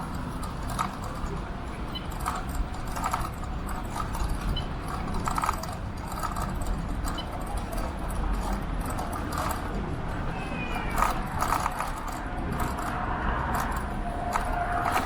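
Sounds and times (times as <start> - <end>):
light rattles: 0.0 - 15.0
road rumble: 0.0 - 15.0
wind: 0.0 - 15.0.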